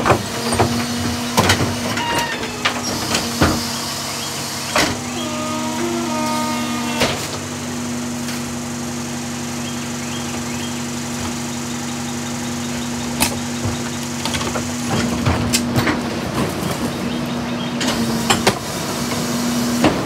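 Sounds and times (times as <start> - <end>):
garbage truck hydraulic hum: 0.0 - 9.2, 13.2 - 20.0.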